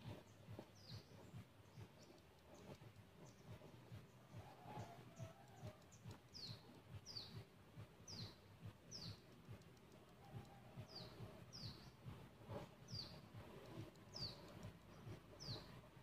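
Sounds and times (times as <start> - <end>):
bird chirping with falling pitch: 0.6 - 9.3, 10.0 - 12.1, 12.8 - 15.9.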